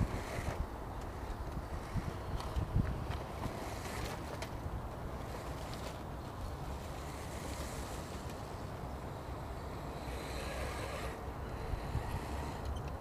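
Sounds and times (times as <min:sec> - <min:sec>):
faint electric motor whir: 0:00.0 - 0:13.0
wind buffeting microphone: 0:00.0 - 0:13.0.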